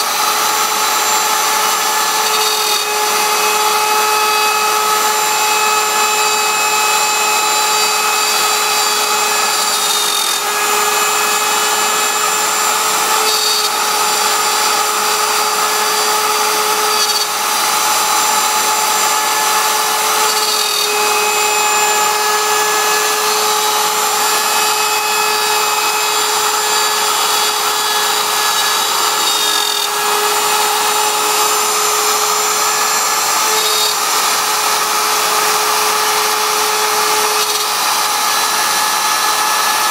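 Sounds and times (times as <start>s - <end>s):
bit cutting wood: 0.0s - 39.9s
router spindle whine: 0.0s - 39.9s.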